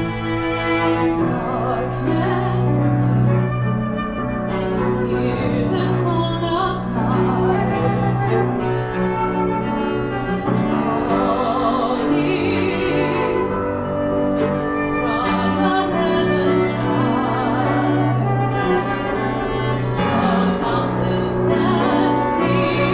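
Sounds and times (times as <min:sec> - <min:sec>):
piano: 0:00.0 - 0:22.9.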